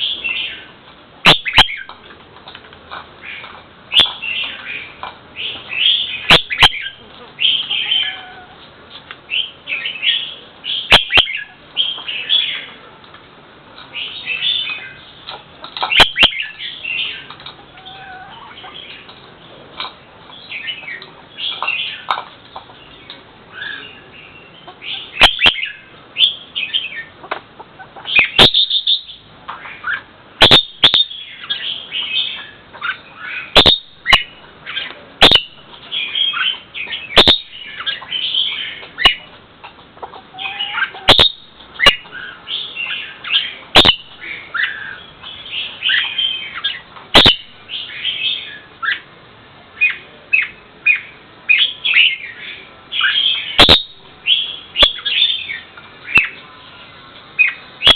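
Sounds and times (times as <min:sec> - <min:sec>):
bird chirping: 0:00.0 - 0:02.0, 0:03.2 - 0:08.4, 0:09.3 - 0:12.8, 0:13.9 - 0:19.6, 0:20.3 - 0:27.2, 0:28.0 - 0:39.3, 0:40.1 - 0:49.1, 0:49.8 - 0:57.9.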